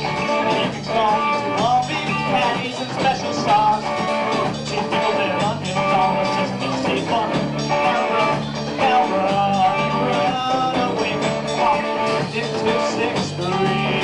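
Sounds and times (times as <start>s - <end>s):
guitar melody: 0.0s - 14.0s
rock band playing: 0.0s - 14.0s.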